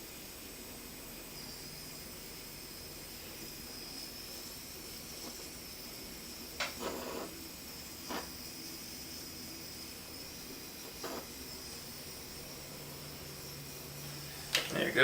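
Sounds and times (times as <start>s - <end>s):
heat gun hissing and whining: 0.0s - 15.0s.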